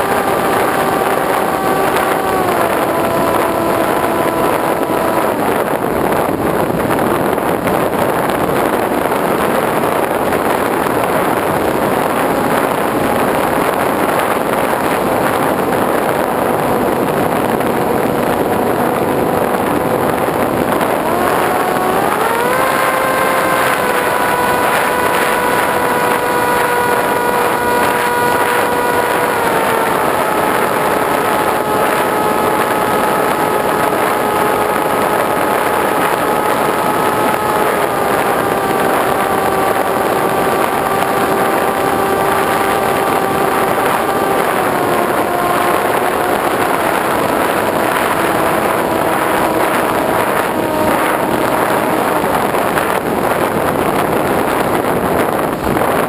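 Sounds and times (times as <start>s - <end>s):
model airplane motor and propeller: 0.0s - 56.0s
rush of wind: 0.0s - 56.0s.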